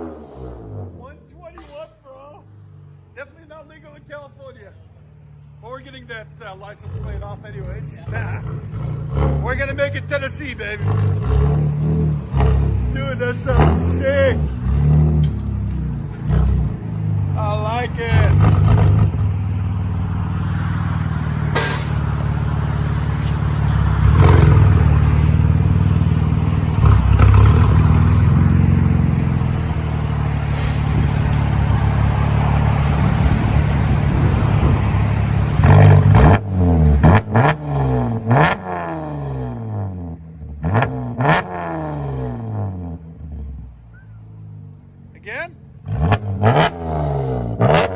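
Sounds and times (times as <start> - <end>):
car engine revving: 0.0 - 1.3, 5.4 - 47.9.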